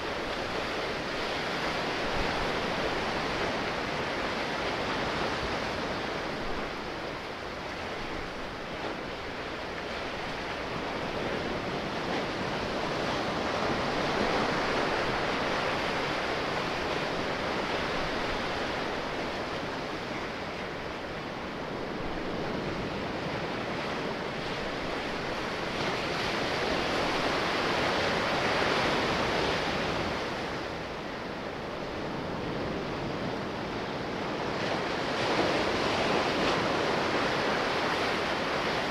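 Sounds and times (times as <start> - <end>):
sea waves surf rushing: 0.0 - 38.9.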